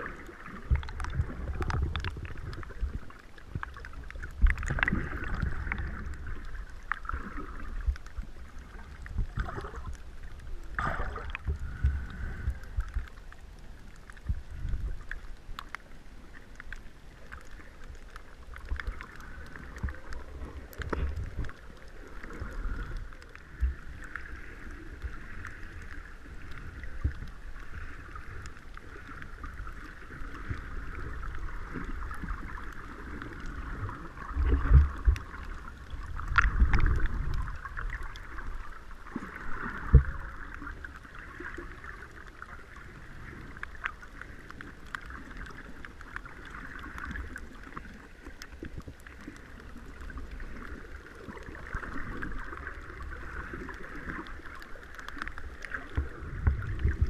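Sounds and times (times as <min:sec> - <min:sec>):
underwater hiss and rumble: 0:00.0 - 0:57.0.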